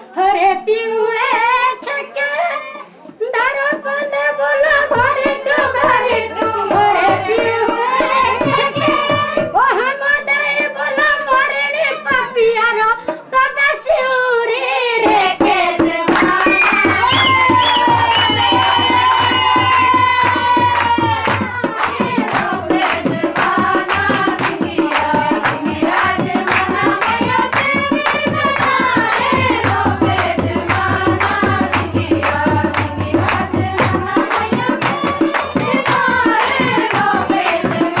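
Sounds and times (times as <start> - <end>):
hand-drum beats: 3.5 - 11.5, 15.0 - 38.0.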